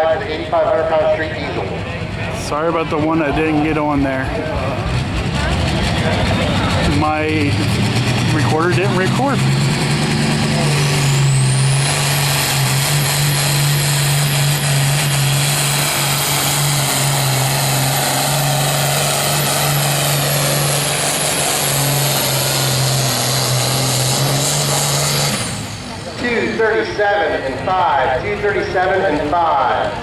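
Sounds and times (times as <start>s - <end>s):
diesel engine at full throttle: 0.0s - 30.0s.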